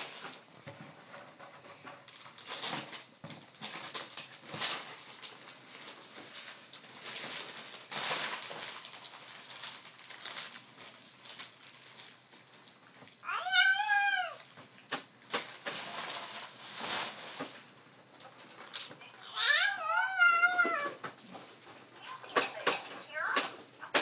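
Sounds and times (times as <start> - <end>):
paper rustling: 0.0 - 13.7, 14.6 - 23.9.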